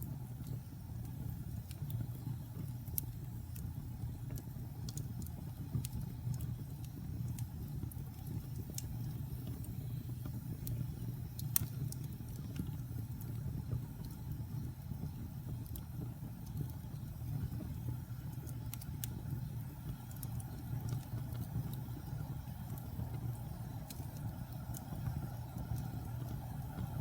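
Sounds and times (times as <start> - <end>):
fire crackling and popping: 0.0 - 27.0
fire rumbling in fireplace: 0.0 - 27.0.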